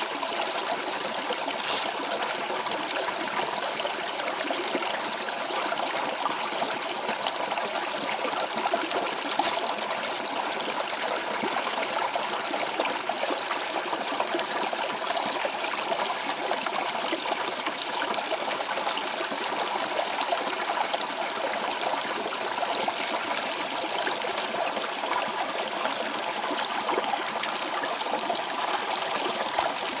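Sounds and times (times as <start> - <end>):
stream flowing water: 0.0 - 30.0.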